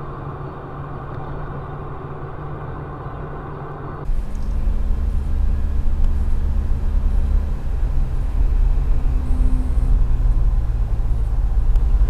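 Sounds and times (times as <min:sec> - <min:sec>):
car engine and road noise: 0:00.0 - 0:12.0
deep car engine rumble: 0:00.0 - 0:12.0.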